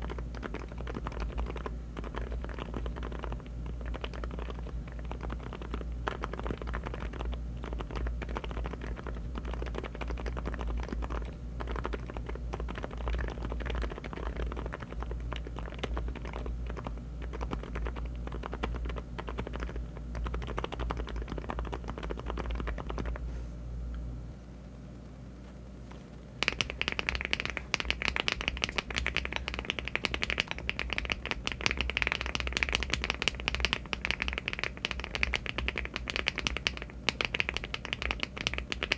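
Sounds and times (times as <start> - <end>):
typing on mechanical keyboard: 0.0 - 23.2, 26.4 - 38.9.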